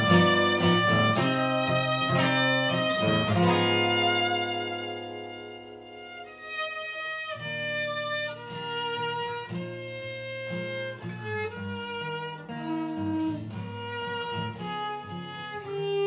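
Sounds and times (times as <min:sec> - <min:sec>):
bowed string melody: 0:00.0 - 0:16.0
plucked string accompaniment: 0:00.0 - 0:16.0.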